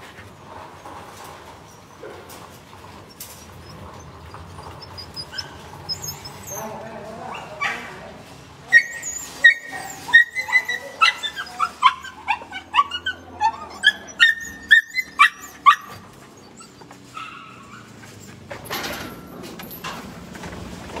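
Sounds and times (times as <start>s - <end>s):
dogs barking and yelping: 0.6s - 8.0s, 8.6s - 19.9s.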